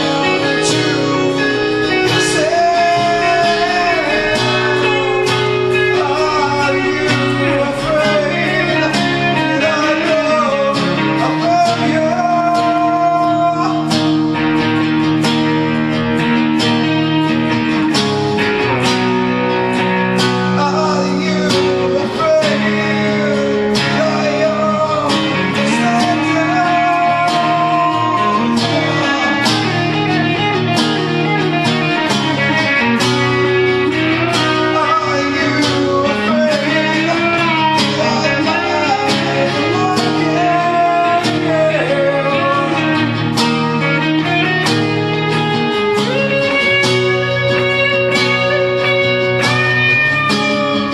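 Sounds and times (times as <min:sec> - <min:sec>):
guitar melody: 0:00.0 - 0:50.9
guitars strumming chords: 0:00.0 - 0:50.9.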